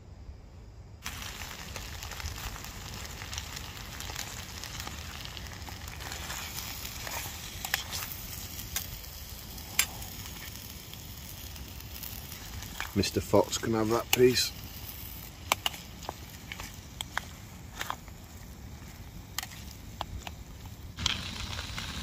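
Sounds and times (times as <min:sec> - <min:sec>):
food sizzling in metal tin: 0:01.0 - 0:22.0.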